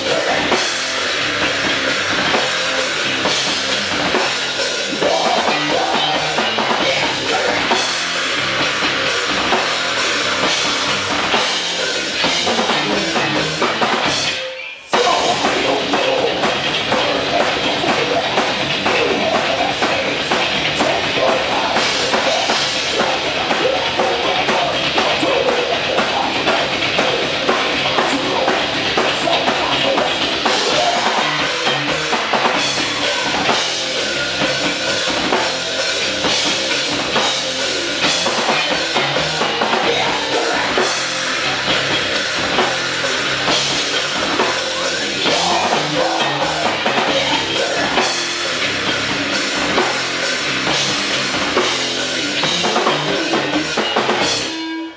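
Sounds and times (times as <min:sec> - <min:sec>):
loud busy drum kit: 0:00.0 - 0:54.9
rock band playing: 0:00.0 - 0:54.9.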